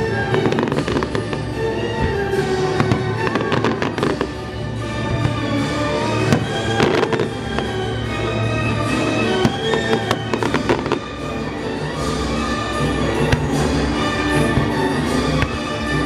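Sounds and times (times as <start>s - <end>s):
fireworks bangs and crackles: 0.0s - 16.0s
orchestral music: 0.0s - 16.0s.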